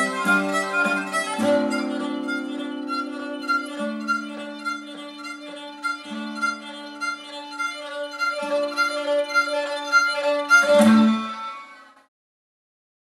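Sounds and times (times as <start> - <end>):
guitar accompaniment: 0.0 - 12.0
bowed string instrument drone: 0.0 - 12.1.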